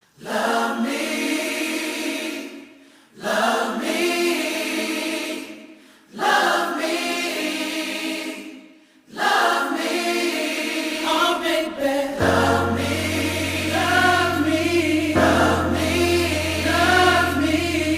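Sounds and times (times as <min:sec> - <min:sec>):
choir singing: 0:00.1 - 0:17.9.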